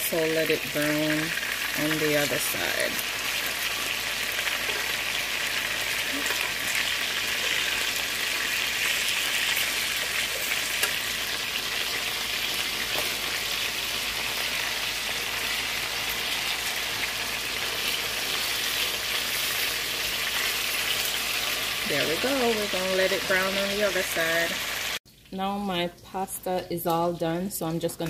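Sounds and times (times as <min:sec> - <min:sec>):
chicken sizzling in a pan: 0:00.0 - 0:25.0.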